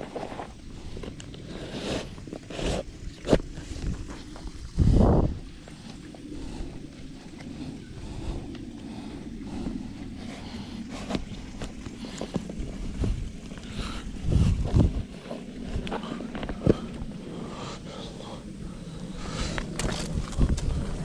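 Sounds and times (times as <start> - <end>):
low rumble: 3.5 - 21.0.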